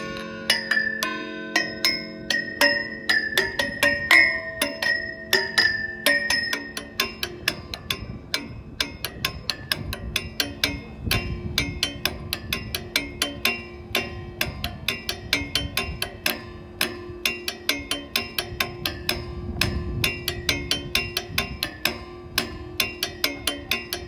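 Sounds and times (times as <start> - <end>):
bell struck with metal rods: 0.0 - 24.0.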